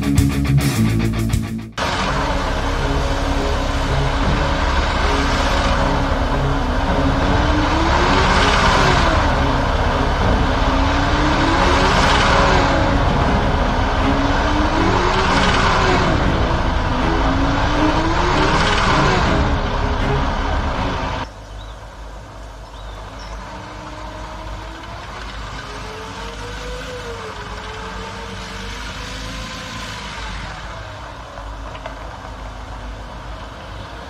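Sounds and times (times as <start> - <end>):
tank engine and running gear rumble: 1.8 - 34.0.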